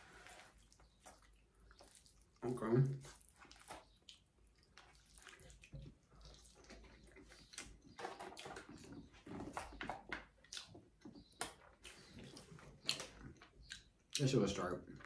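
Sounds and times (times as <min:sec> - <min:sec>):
wet chewing mouth sounds: 0:00.2 - 0:15.0.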